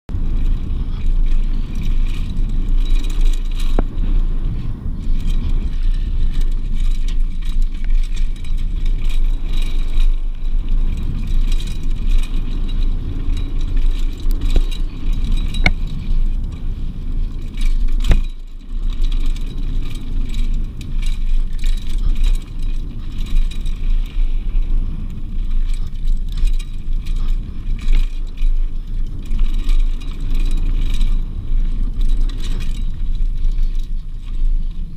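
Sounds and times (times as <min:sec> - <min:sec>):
bike rattling over bumps: 0:00.1 - 0:34.9
bike tyres rumbling on dirt: 0:00.1 - 0:34.9
wind on microphone: 0:00.1 - 0:34.9.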